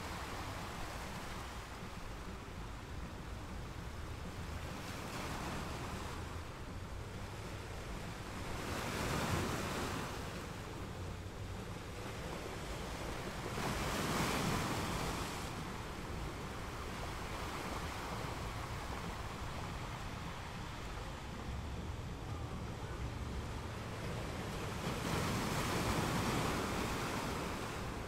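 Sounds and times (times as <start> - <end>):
sea waves washing: 0.0 - 28.0.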